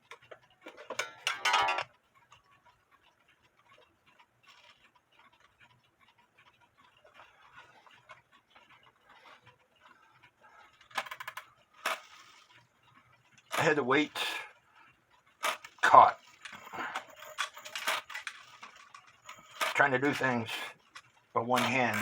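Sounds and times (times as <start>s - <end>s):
wall clock ticking faintly: 0.0s - 22.0s.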